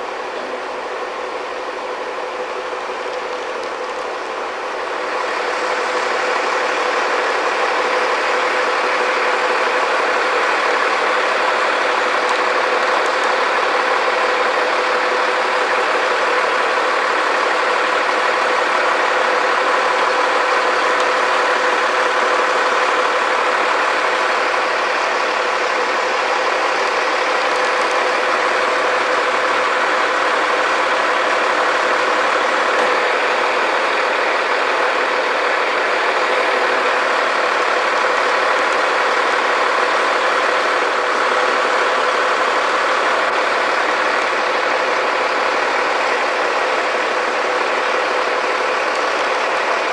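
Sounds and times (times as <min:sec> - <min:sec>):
large engine droning: 0:00.0 - 0:49.9.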